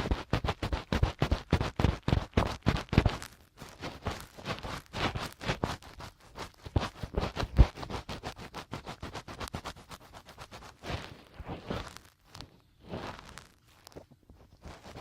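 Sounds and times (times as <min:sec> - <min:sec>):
fingertips scratching microphone: 0:00.0 - 0:15.0
soft brushing strokes: 0:00.0 - 0:15.0.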